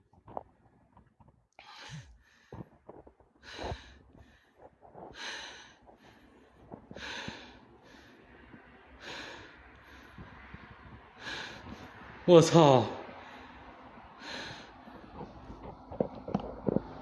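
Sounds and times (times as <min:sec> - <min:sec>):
man breathing heavily: 0:01.6 - 0:16.0.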